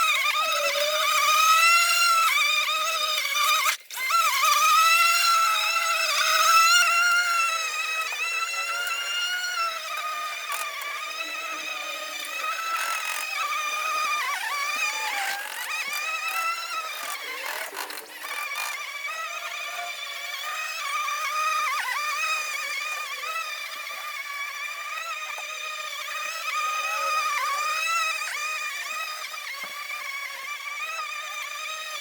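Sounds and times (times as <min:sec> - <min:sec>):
lawn mower motor whining: 0:00.0 - 0:32.0.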